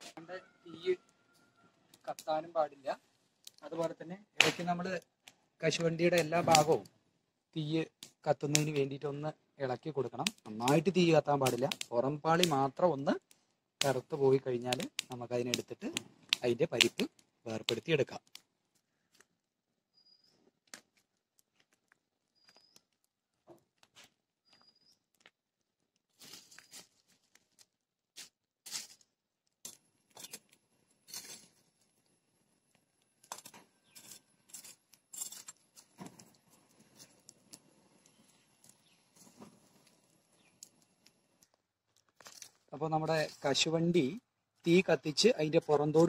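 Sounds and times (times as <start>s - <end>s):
crackling of small open fire: 0.0s - 46.0s.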